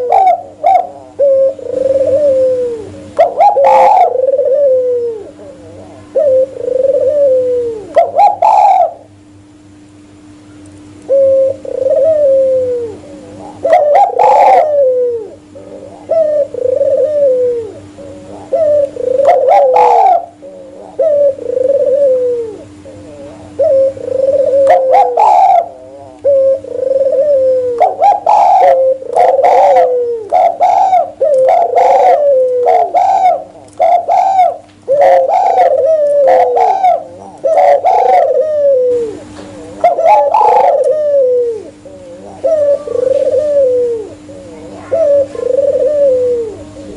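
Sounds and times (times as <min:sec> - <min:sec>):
harsh dove calls: 0:00.0 - 0:09.5, 0:11.0 - 0:46.9
doves cooing: 0:00.0 - 0:46.9
faint steady hum: 0:00.0 - 0:46.9.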